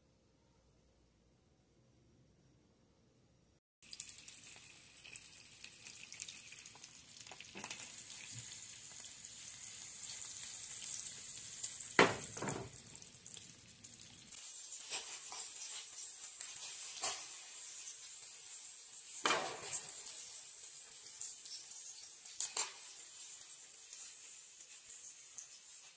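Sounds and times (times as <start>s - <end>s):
fish sizzling in frying pan: 3.8s - 25.9s.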